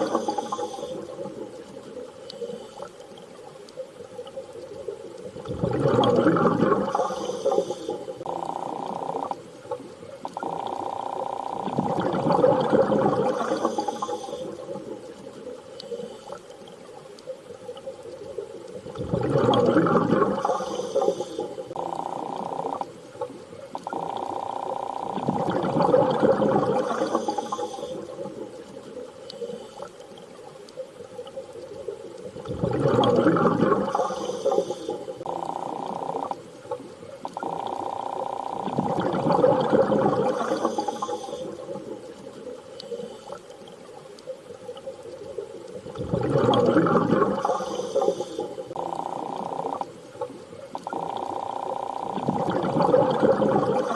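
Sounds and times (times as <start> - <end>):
underwater water noise: 0.0 - 53.9.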